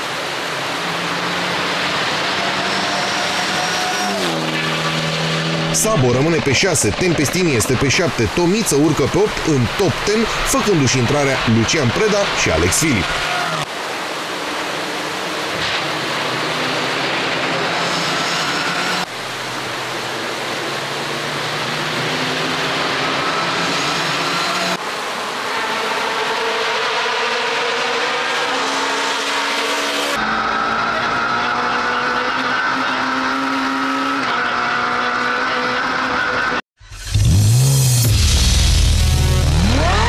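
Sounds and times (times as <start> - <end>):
rally car engines revving: 0.0 - 40.0.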